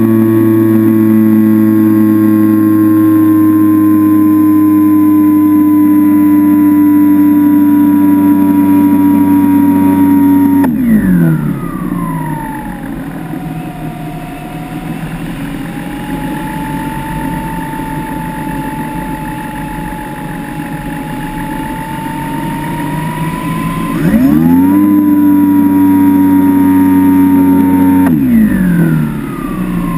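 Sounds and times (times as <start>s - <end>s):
electric motor and propeller whine: 0.0s - 29.9s.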